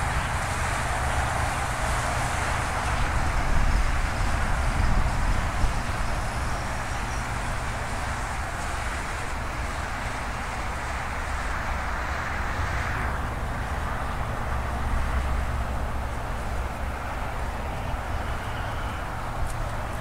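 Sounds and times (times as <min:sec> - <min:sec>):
jet engine noise: 0:00.0 - 0:20.0
wind rumbling on microphone: 0:00.0 - 0:20.0.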